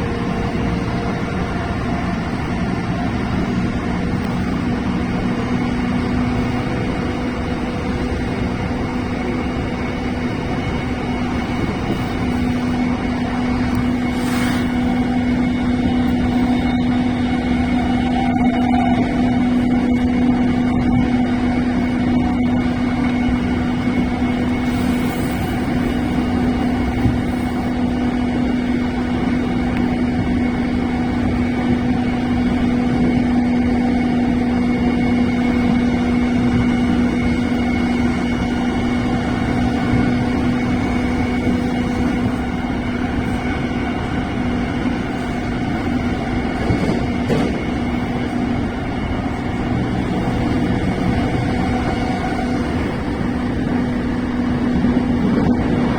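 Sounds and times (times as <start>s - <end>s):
steady train hum: 0.0s - 55.9s
wheels rumbling on rail: 0.0s - 55.9s.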